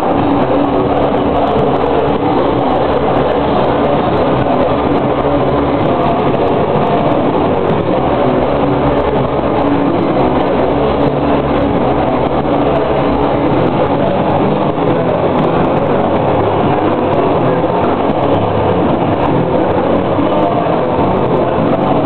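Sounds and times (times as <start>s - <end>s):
drum kit: 0.0s - 22.0s
electric guitars: 0.0s - 22.0s.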